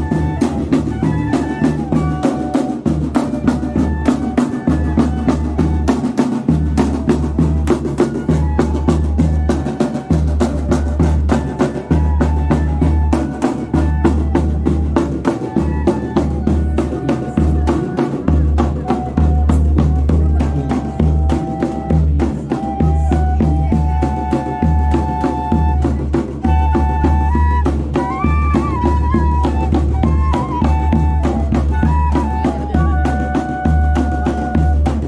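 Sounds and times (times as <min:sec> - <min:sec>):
bamboo fifes playing melody: 0:00.0 - 0:35.0
snare drum: 0:00.0 - 0:35.0.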